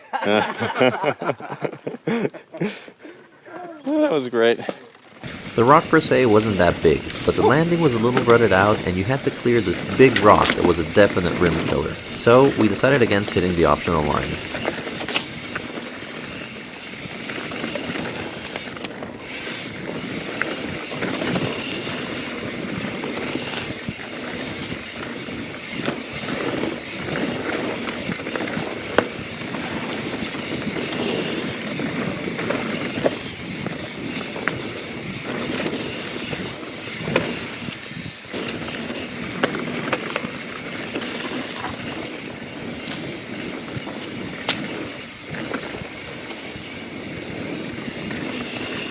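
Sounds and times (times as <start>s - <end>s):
bike tyres rolling on dirt: 4.3s - 48.9s
bike rattling over bumps: 5.0s - 48.9s.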